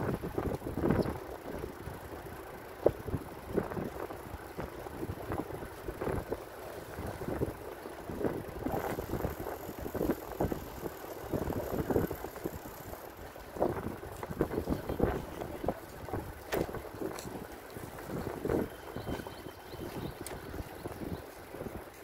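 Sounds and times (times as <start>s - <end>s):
wind buffeting microphone: 0.0s - 2.0s, 2.6s - 22.0s.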